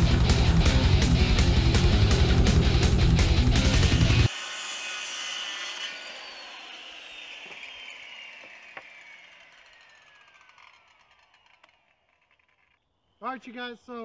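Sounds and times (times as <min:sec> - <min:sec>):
circular saw cutting wood: 0:00.0 - 0:12.8
saw blade winding down: 0:00.0 - 0:12.8.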